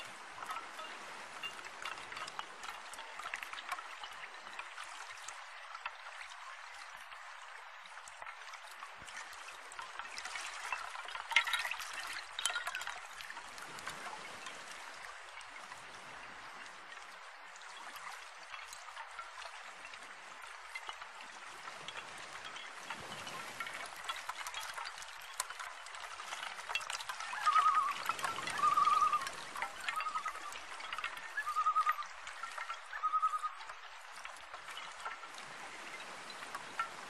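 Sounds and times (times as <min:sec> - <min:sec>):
running water trickling: 0:00.0 - 0:37.0.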